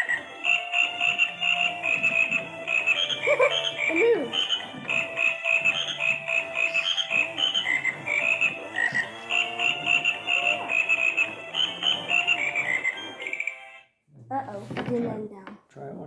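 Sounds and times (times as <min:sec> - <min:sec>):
toy motor buzz: 0:00.0 - 0:13.5
toy frog electronic croaking: 0:00.0 - 0:13.9.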